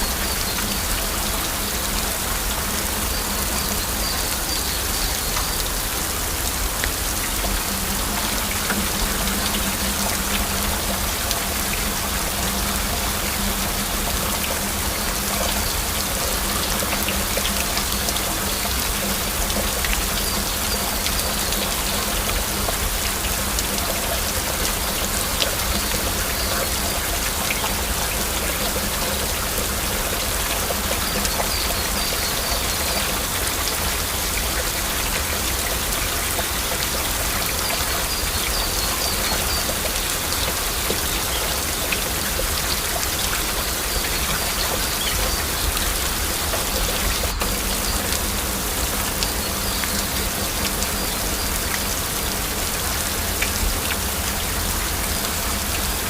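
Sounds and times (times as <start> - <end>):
heavy rain: 0.0 - 56.0
raindrops ticking: 0.0 - 56.0.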